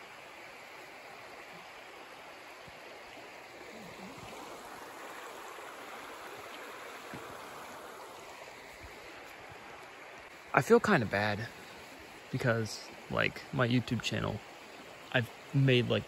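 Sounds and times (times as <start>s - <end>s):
stream babbling over rocks: 0.0s - 16.0s.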